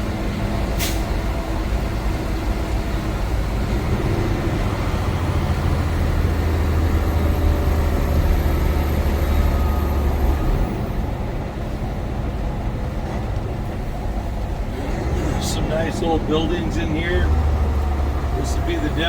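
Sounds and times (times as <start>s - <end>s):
diesel engine droning: 0.0s - 19.0s
road and tyre noise: 0.0s - 19.0s.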